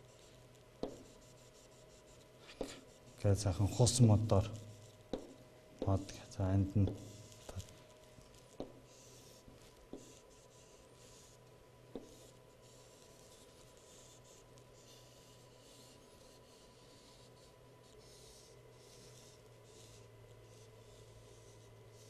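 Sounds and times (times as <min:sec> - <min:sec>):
chalk scratching on chalkboard: 0:00.0 - 0:07.7, 0:08.3 - 0:22.0
faint electrical hum: 0:00.0 - 0:22.0.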